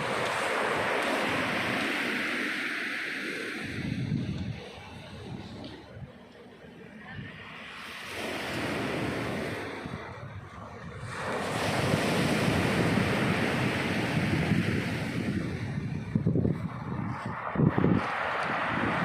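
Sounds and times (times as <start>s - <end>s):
surf washing on shore: 0.0s - 6.1s, 6.8s - 19.0s
wind buffeting microphone: 0.0s - 6.3s, 8.1s - 19.0s.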